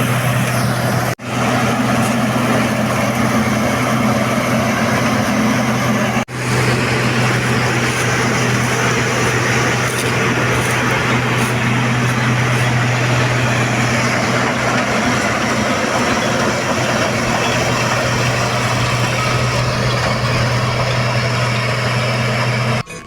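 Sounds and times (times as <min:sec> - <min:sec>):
diesel farm machinery running: 0:00.0 - 0:23.0.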